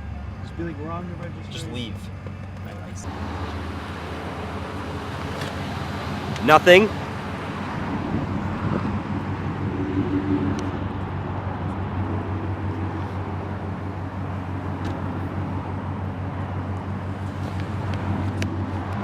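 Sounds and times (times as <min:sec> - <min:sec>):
engine running: 0:00.0 - 0:19.0
road traffic: 0:00.0 - 0:19.0.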